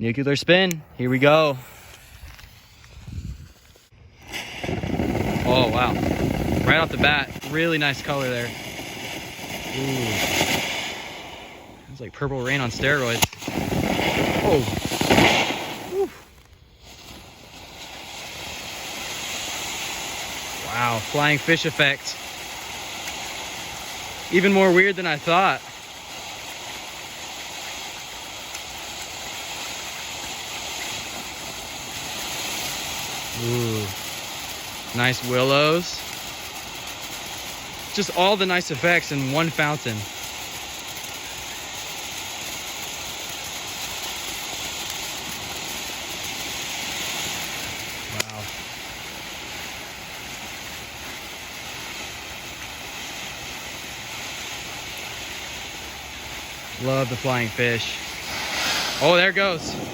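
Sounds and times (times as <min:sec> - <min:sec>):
firework fountain hissing sparks: 0:00.0 - 0:59.9.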